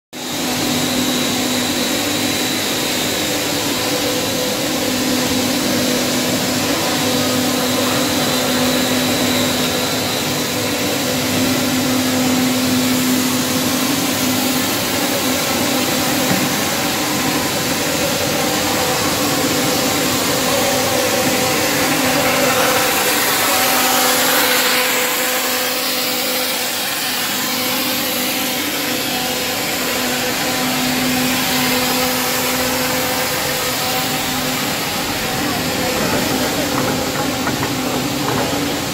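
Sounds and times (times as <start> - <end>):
machinery drone: 0.2 - 38.9
constant hum: 0.4 - 38.9.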